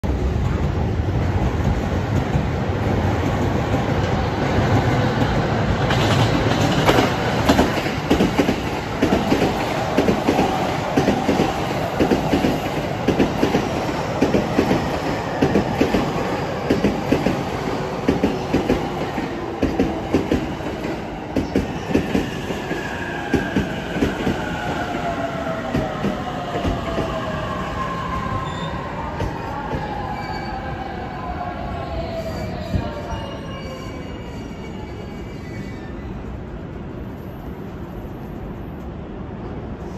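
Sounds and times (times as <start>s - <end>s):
train rumble: 0.0s - 35.2s.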